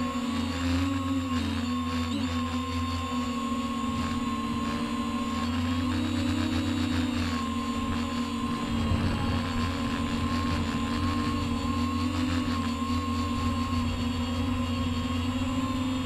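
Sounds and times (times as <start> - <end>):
drone motors whining hum: 0.0 - 16.0.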